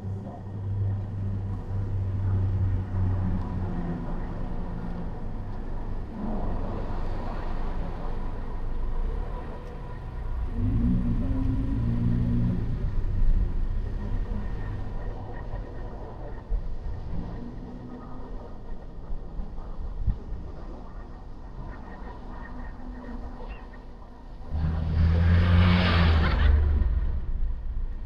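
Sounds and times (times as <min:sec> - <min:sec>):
car engine and road rumble: 0:00.0 - 0:28.0
low hum: 0:00.0 - 0:28.0.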